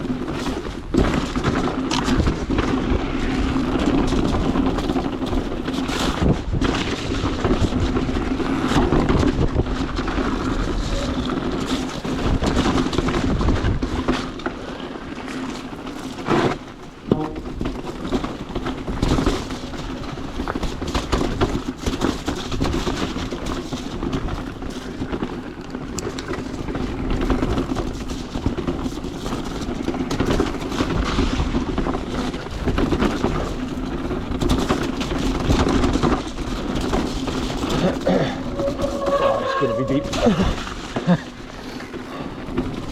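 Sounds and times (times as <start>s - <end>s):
bike knocking and rattling: 0.0s - 42.9s
wind noise: 0.0s - 42.9s.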